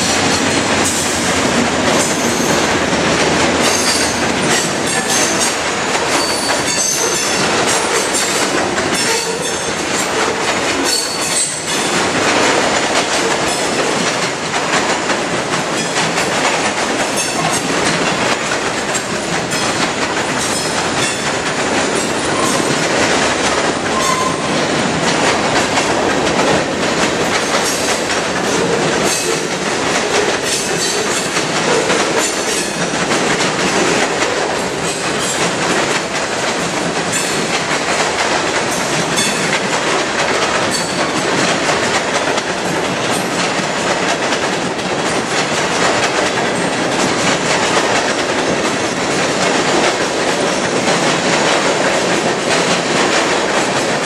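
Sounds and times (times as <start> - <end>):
train wheels on rail: 0.0 - 54.0
wheels clacking over rail joints: 0.0 - 54.0.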